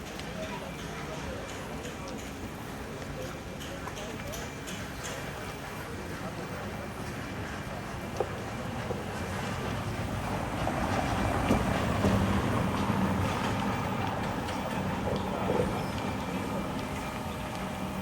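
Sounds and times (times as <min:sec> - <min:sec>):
street ambience: 0:00.0 - 0:18.0.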